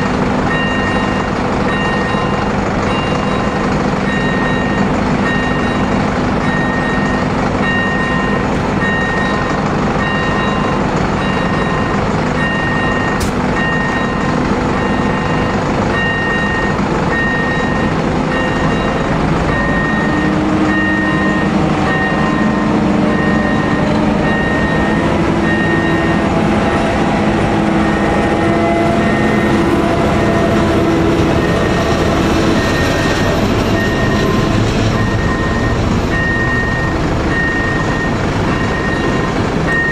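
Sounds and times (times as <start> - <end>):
diesel locomotive engine: 0.0 - 39.9
level crossing warning bell: 0.0 - 39.9
train wheels rumbling: 0.0 - 39.9.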